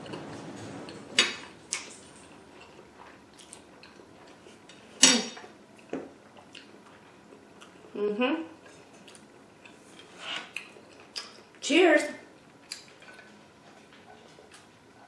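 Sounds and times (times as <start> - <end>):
quiet chewing: 0.9 - 11.6, 12.3 - 15.0.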